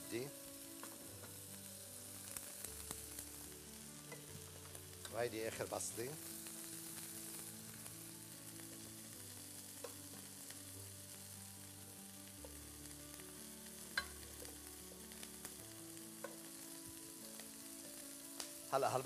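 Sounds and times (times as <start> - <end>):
steak sizzling in a pan: 0.0 - 19.0.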